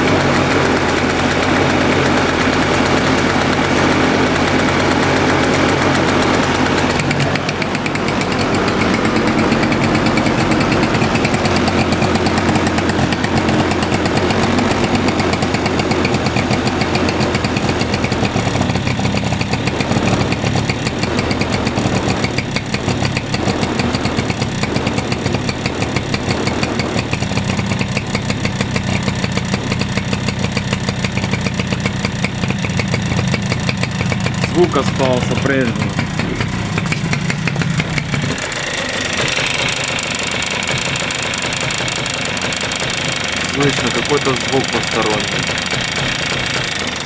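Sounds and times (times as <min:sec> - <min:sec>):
scooter engine running at low revs: 0:00.0 - 0:47.0
ticking in engine: 0:00.0 - 0:47.0.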